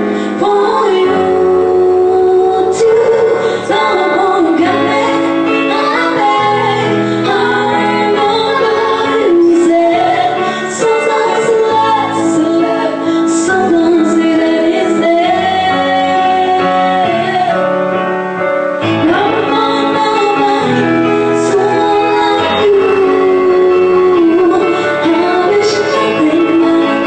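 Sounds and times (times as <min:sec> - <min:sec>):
women singing a slow ballad: 0:00.0 - 0:18.0, 0:18.8 - 0:27.0
instrumental accompaniment: 0:00.0 - 0:27.0.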